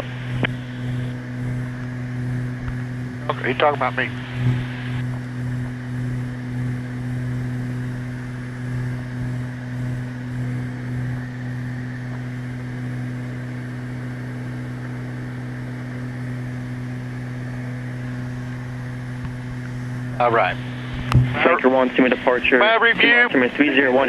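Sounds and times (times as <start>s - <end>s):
propeller plane cabin drone: 0.0s - 24.0s.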